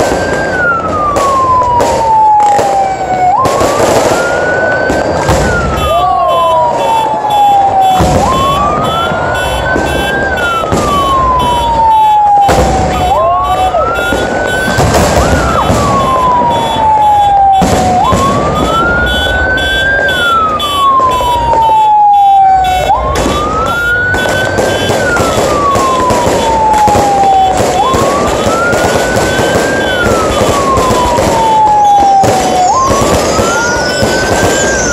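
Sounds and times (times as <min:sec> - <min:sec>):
fireworks banging and crackling: 0:00.0 - 0:34.9
siren wailing: 0:00.0 - 0:34.9.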